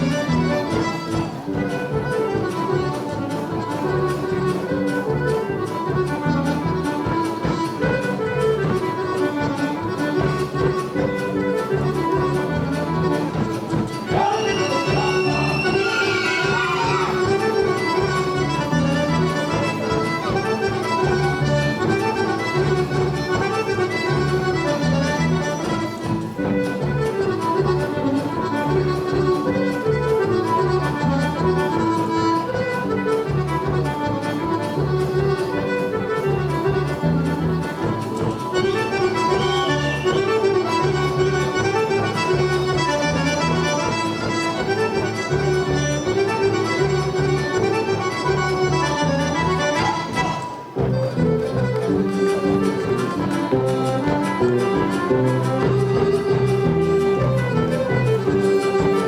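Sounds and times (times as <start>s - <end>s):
accordion folk dance music: 0.0s - 59.0s.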